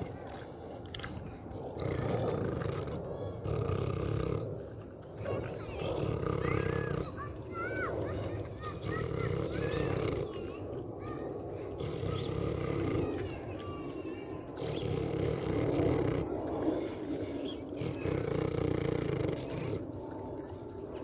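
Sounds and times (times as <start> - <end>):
pig grunting: 0.0 - 21.0.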